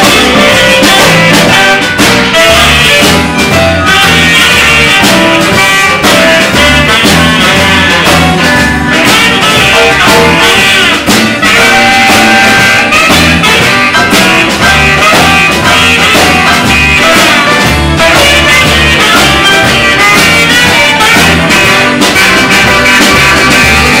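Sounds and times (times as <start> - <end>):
live soul band playing: 0.0 - 24.0.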